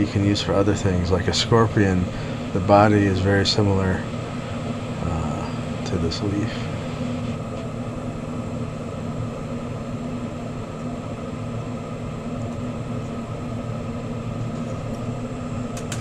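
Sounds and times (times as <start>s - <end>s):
low steady hum: 0.0s - 16.0s
torch flame hissing: 0.0s - 16.0s.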